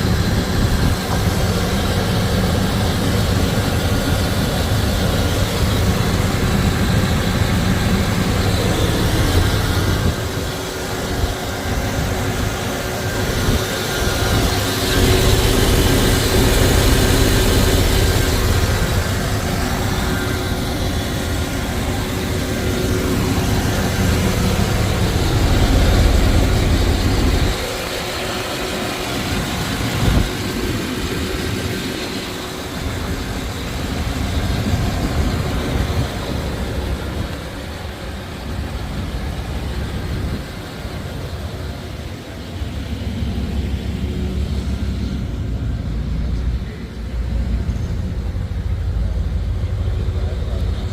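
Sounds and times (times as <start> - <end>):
engine rumbling: 0.0 - 50.9.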